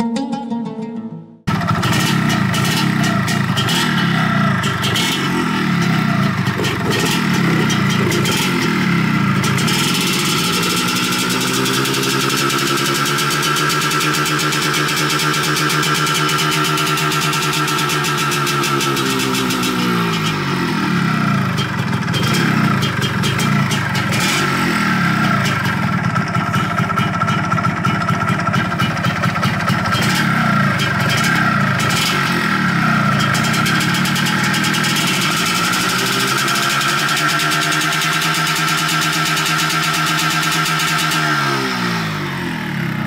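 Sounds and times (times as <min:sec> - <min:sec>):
two-stroke engine running: 0:01.5 - 0:43.0.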